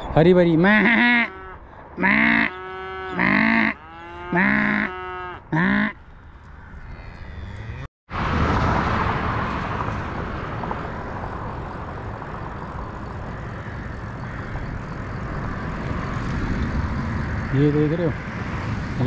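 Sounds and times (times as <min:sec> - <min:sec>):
rushing wind and road noise: 0:00.0 - 0:04.4, 0:05.4 - 0:19.0.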